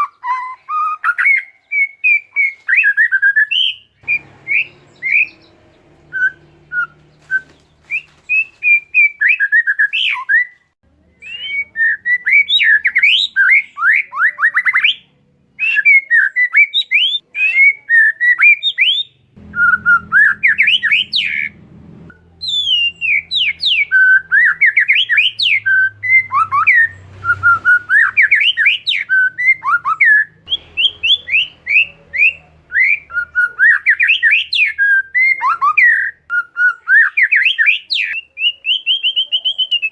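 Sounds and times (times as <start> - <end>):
bird singing whistles and chatter: 0.0 - 39.9.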